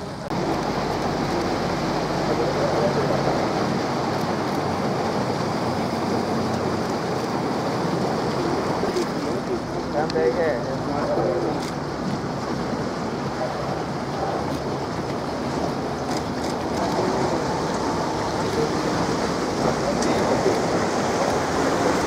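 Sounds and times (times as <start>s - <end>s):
boat motor running low: 0.0s - 22.0s
faint murmured voices: 0.0s - 22.0s.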